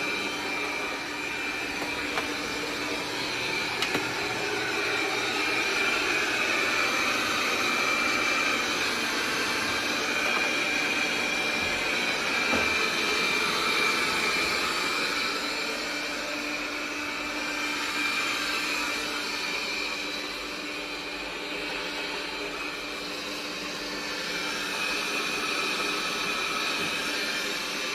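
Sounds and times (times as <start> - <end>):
robot vacuum running: 0.0 - 27.9.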